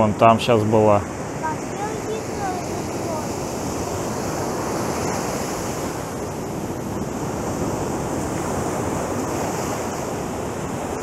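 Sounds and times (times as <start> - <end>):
surf waves washing ashore: 0.0 - 11.0.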